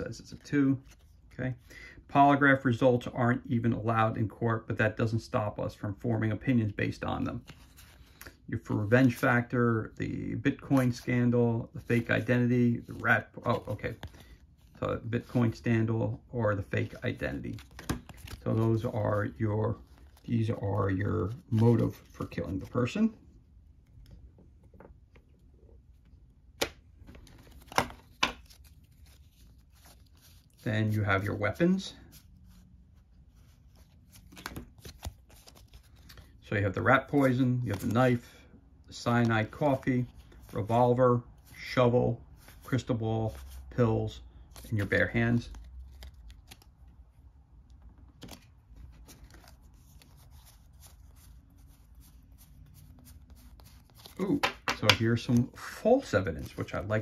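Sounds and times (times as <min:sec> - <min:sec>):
cards rustling and clicking: 0:00.2 - 0:01.6, 0:06.4 - 0:09.7, 0:10.4 - 0:57.0.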